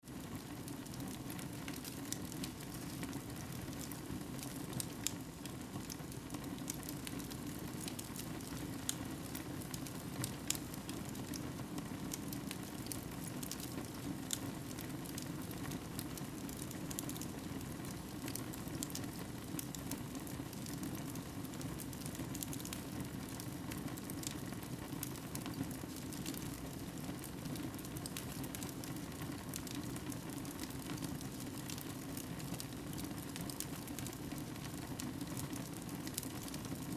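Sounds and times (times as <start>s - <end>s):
fire burning in a fireplace: 0.0s - 36.9s
fire crackling and popping: 0.1s - 36.9s.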